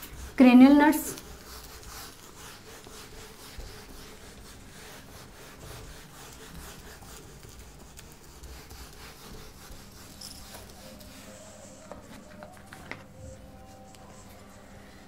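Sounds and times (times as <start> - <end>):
eraser scrubbing whiteboard: 0.0 - 15.0.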